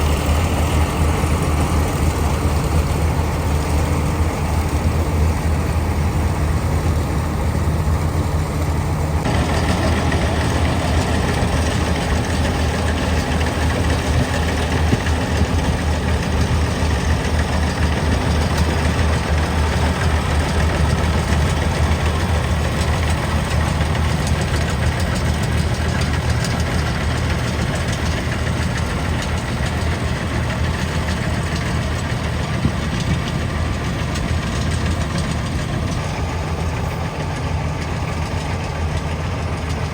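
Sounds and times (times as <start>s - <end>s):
diesel engine humming: 0.0s - 39.9s
noisy mechanical whir: 0.0s - 39.9s.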